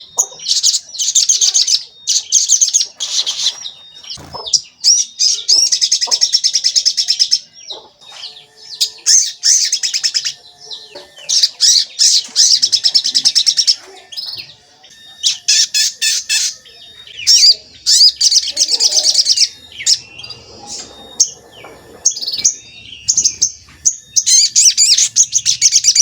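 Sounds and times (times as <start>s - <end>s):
songbird trilling: 0.0s - 26.0s.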